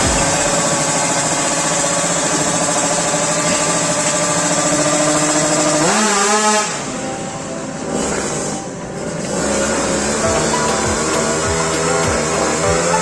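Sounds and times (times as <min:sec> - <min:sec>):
motorcycle engine idling and revving: 0:00.0 - 0:06.9, 0:07.9 - 0:13.0.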